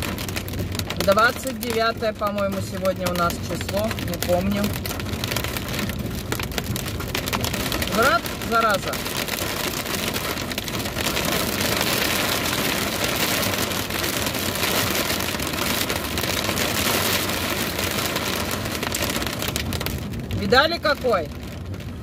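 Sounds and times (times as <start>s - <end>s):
hail clattering on a car: 0.0s - 22.0s
rain: 0.0s - 22.0s.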